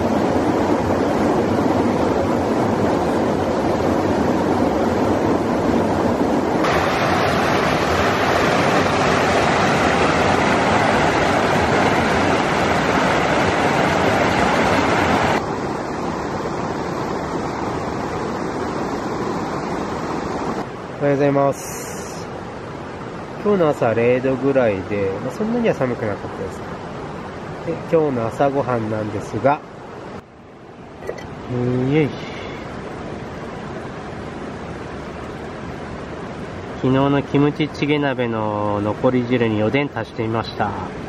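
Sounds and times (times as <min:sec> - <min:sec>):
river rushing over rocks: 0:00.0 - 0:41.0.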